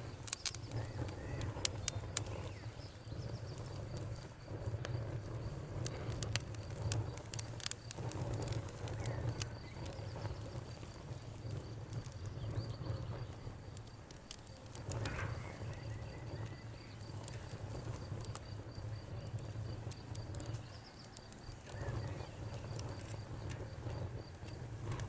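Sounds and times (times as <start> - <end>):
constant low rumble: 0.0 - 25.0
crickets chirping: 0.0 - 25.0
wood fire crackling and popping: 0.0 - 25.0.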